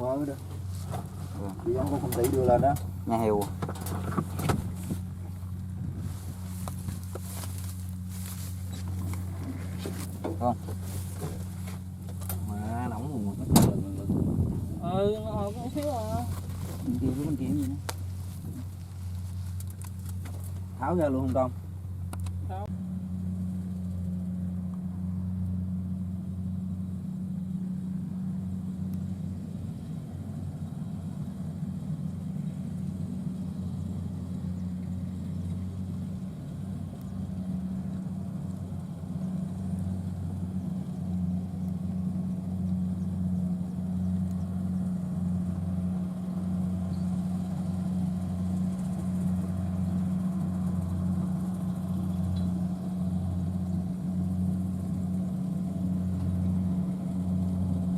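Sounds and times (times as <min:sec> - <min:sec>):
diesel engine humming: 0:00.0 - 0:57.9.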